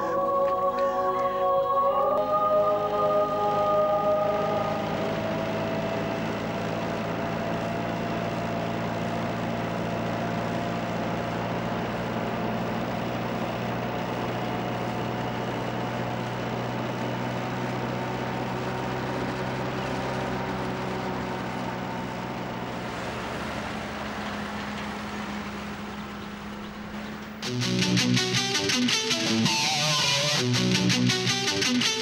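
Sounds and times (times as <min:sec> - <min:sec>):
tractor engine droning: 0:00.0 - 0:32.0.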